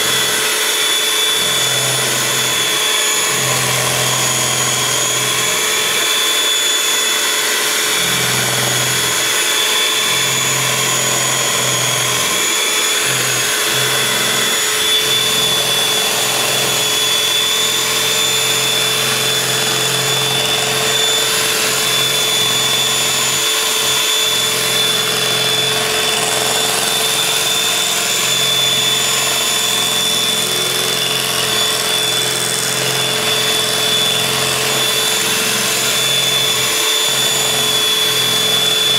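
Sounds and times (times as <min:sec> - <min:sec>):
electric hand mixer whining: 0:00.0 - 0:38.9.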